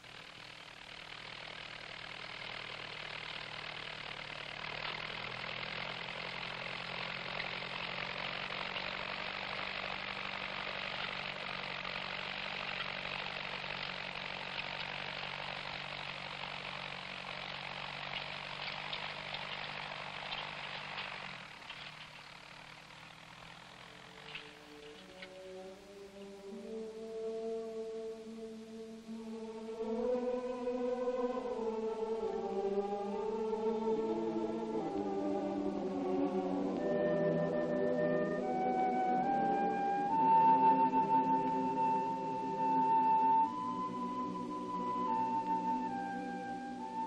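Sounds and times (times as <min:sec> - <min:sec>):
steady hiss: 0:00.0 - 0:47.0
tractor engine running: 0:00.0 - 0:47.0.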